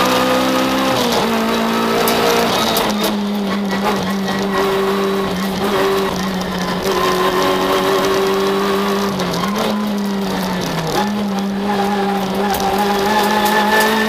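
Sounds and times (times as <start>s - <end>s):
car engine at speed from cabin: 0.0s - 14.0s.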